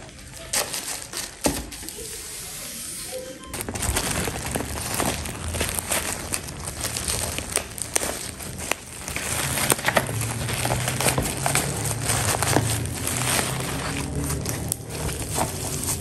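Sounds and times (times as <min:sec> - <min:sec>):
plastic bag crinkling and tearing: 0:00.0 - 0:02.3, 0:03.5 - 0:16.0.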